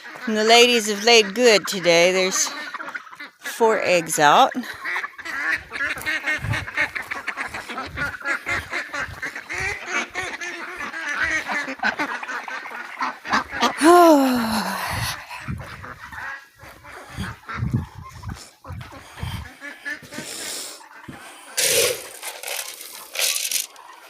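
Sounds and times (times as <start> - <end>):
geese honking: 0.0 - 13.9, 14.8 - 24.0
ducks quacking: 0.0 - 24.0.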